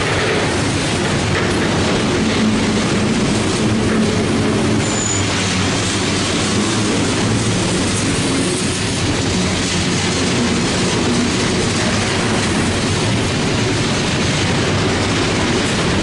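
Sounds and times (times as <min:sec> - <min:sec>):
train wheels rolling on rails: 0:00.0 - 0:16.0
wheels clicking and clanking: 0:00.0 - 0:16.0.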